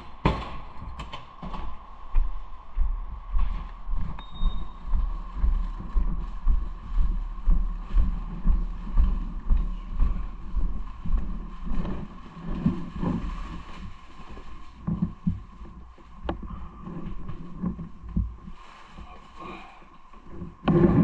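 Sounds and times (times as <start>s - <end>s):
faint steady whine: 0.0s - 21.0s.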